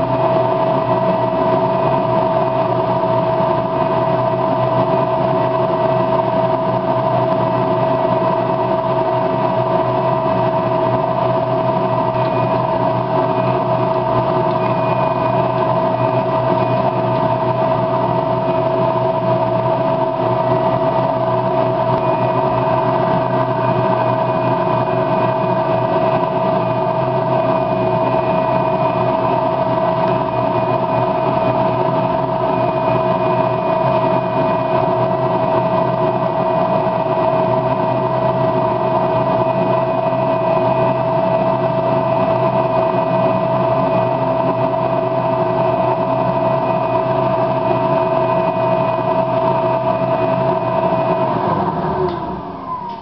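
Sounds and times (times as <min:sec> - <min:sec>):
motor humming: 0:00.0 - 0:53.0.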